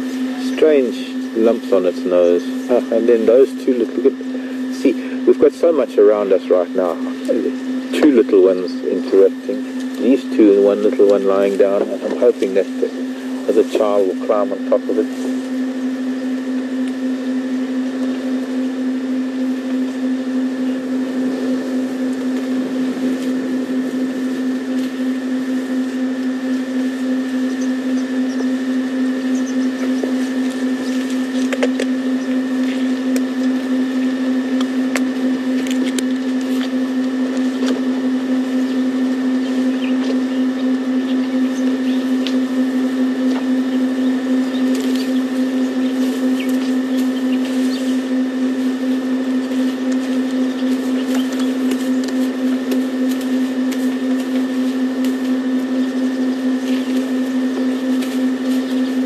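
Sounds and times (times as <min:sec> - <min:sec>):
mechanical hum with high whine: 0:00.0 - 0:59.0.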